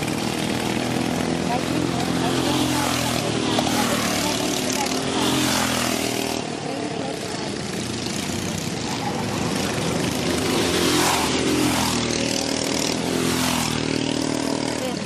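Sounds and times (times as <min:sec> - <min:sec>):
go-kart engines passing: 0:00.0 - 0:15.0.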